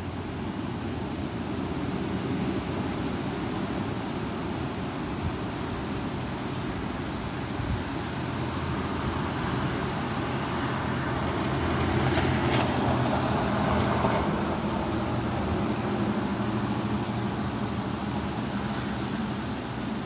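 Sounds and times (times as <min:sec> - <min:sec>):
strong wind blowing: 0:00.8 - 0:20.0.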